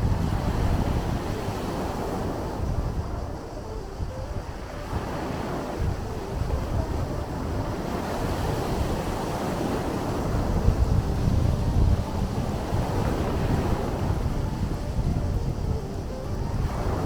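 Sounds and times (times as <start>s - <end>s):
sea waves washing in: 0.0s - 17.0s
wind buffeting microphone: 0.0s - 17.0s.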